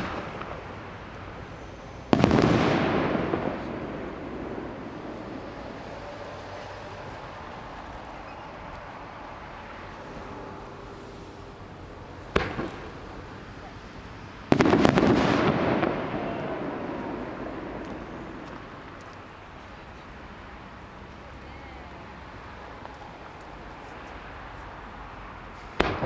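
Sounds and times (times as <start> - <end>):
fireworks bangs and cracks: 0.0 - 23.6, 25.5 - 26.0
fireworks rumble: 0.0 - 26.0.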